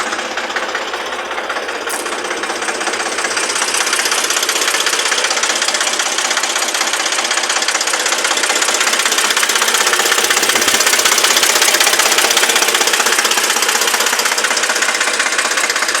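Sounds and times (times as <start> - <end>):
diesel tractor engine clattering: 0.0 - 16.0.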